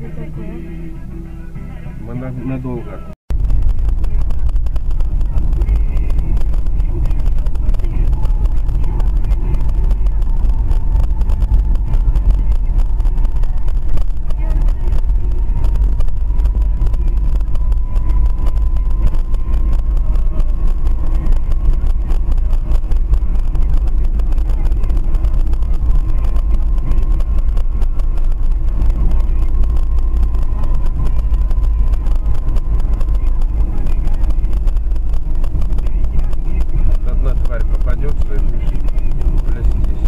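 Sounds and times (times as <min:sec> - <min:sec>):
faint high whine: 0:00.0 - 0:40.0
vehicle engine low rumble: 0:00.0 - 0:40.0.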